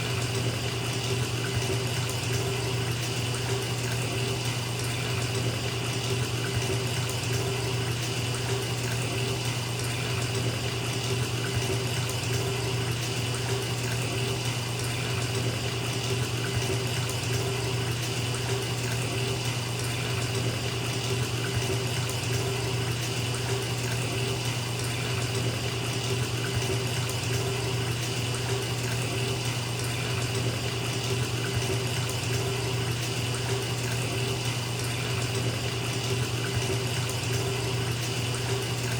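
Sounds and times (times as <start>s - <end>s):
tap pouring into bathtub: 0.0s - 38.9s.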